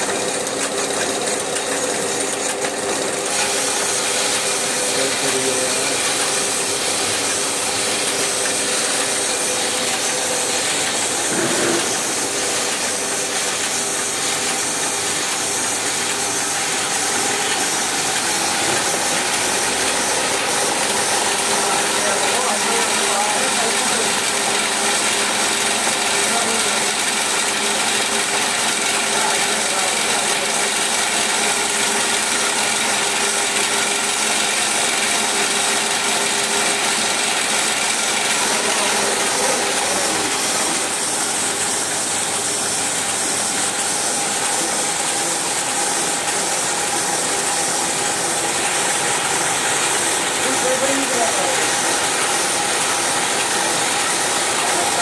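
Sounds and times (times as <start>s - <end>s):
printing press running: 0.0s - 55.0s.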